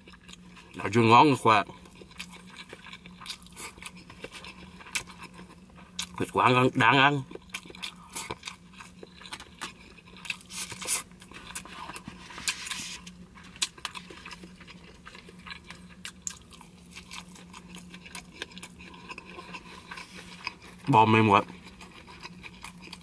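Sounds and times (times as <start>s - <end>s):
close-up chewing: 0.0s - 0.9s, 1.6s - 6.4s, 7.1s - 23.0s.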